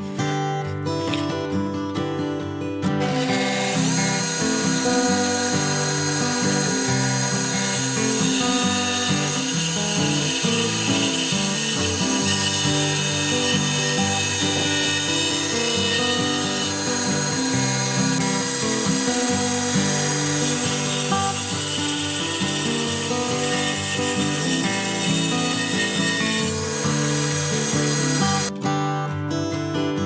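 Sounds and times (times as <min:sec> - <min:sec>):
table saw blade hiss: 0:03.0 - 0:28.5.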